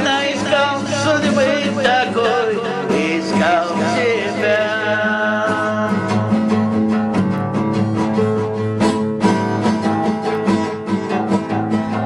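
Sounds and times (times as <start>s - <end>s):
guitar strummed rhythmically: 0.0s - 12.0s.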